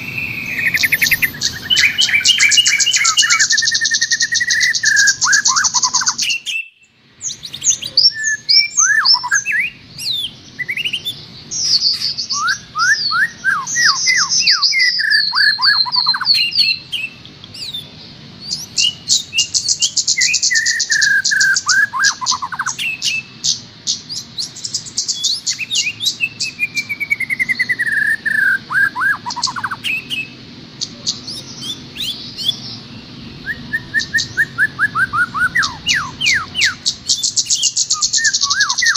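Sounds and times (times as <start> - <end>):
songbird chirps and trills: 0.0 - 38.9.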